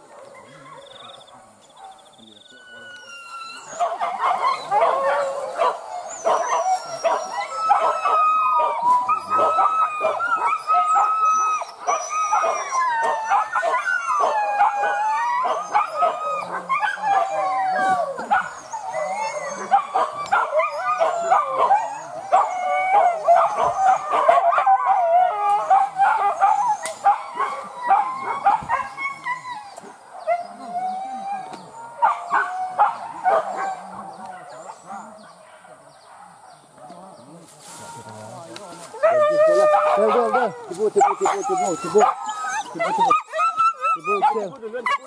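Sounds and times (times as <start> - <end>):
dogs howling and yelping: 0.0 - 35.9, 36.8 - 45.0.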